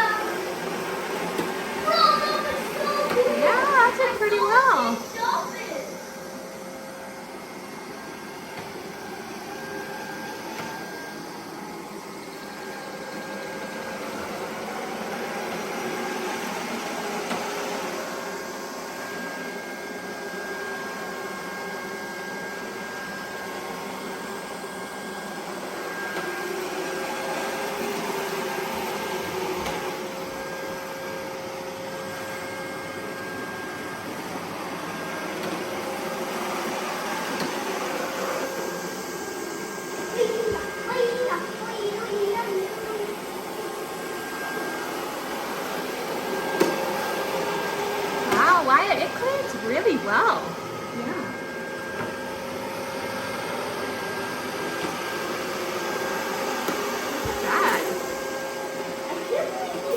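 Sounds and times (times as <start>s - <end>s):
robot vacuum whirring: 0.0s - 59.9s.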